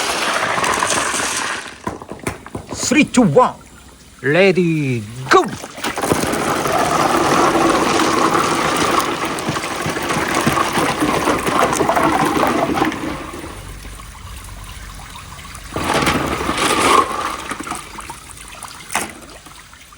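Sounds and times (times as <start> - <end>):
water rushing down a marble run: 0.0 - 19.9
water trickling: 2.4 - 19.9.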